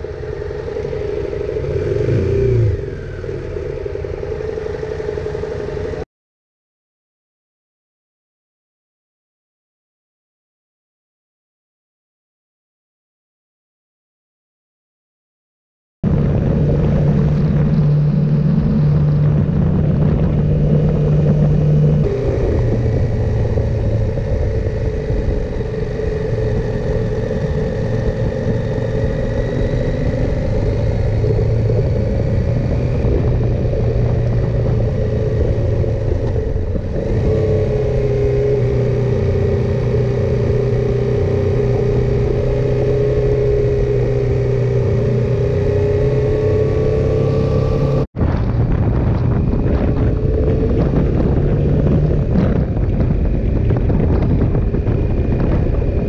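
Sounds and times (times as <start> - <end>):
motorcycle engine running: 0.0 - 6.0, 16.0 - 56.0.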